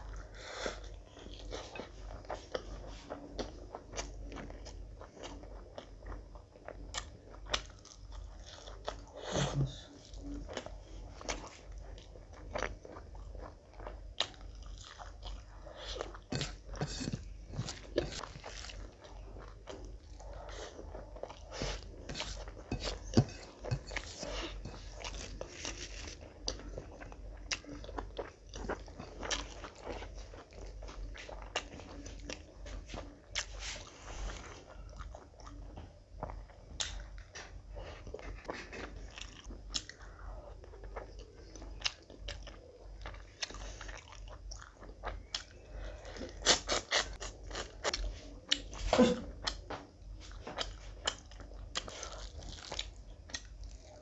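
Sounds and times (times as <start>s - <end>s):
chewing food: 0.0s - 54.0s.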